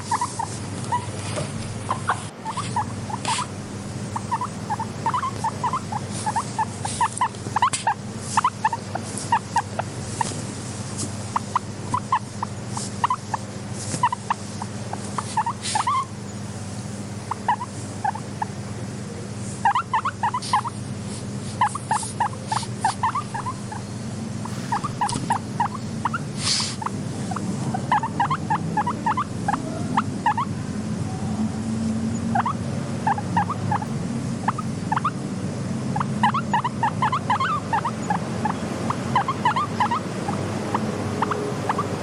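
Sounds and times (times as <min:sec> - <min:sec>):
guinea pigs squeaking: 0:00.0 - 0:35.2, 0:35.9 - 0:42.0
steady low hum: 0:00.0 - 0:42.0.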